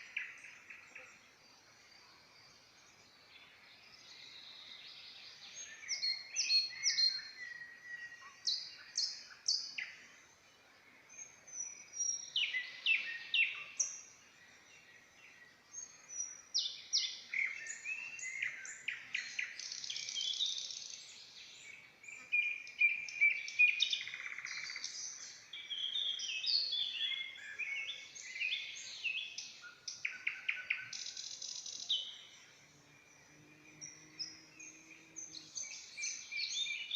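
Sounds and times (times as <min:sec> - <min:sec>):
songbirds singing: 0:00.0 - 0:36.9.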